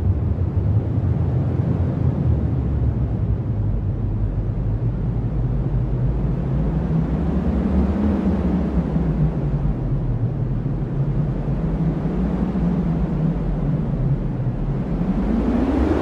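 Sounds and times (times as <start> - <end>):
strong wind rumbling: 0.0 - 16.0.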